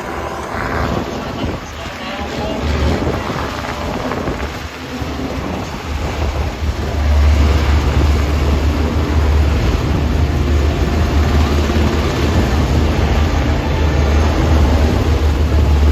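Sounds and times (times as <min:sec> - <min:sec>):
helicopters flying over: 0:00.0 - 0:15.9.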